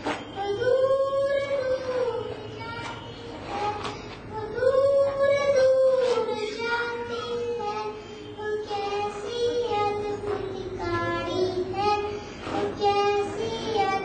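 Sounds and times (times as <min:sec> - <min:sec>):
girl singing: 0:00.0 - 0:14.0.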